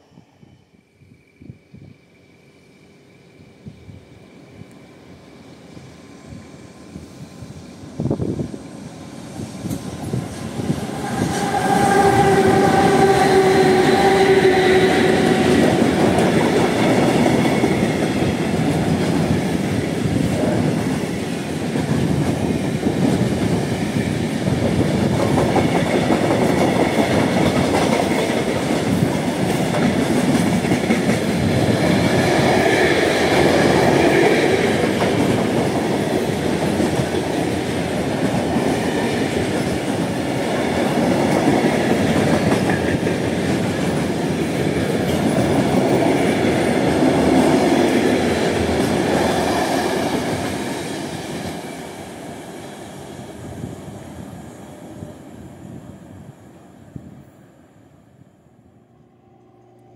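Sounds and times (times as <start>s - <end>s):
freight train wheels rolling on rails: 1.0s - 57.4s.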